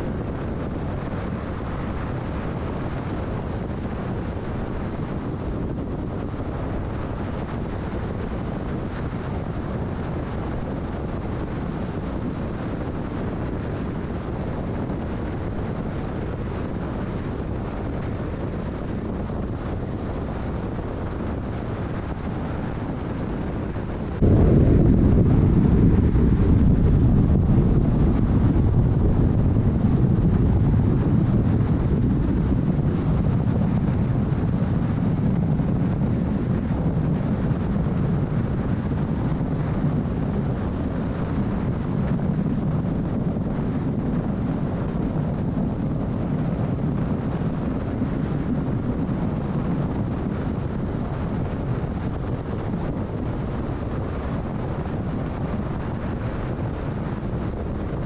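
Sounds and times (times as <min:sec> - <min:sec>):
car tyre and wind noise: 0:00.0 - 0:58.0.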